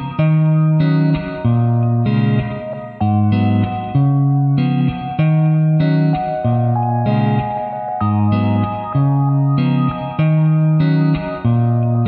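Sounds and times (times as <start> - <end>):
bass guitar: 0.0 - 12.0
electric guitar: 0.0 - 12.0.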